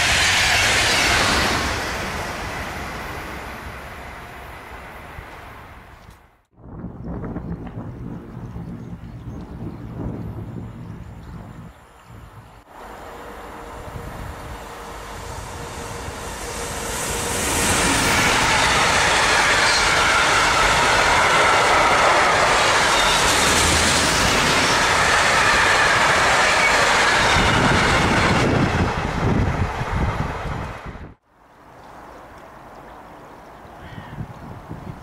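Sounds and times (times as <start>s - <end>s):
freight train passing: 0.0s - 33.8s.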